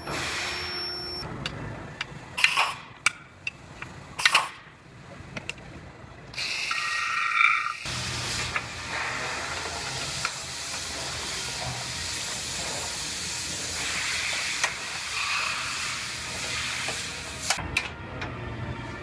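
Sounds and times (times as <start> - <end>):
shop background hiss: 0.0 - 1.3, 2.1 - 5.3, 6.1 - 17.6.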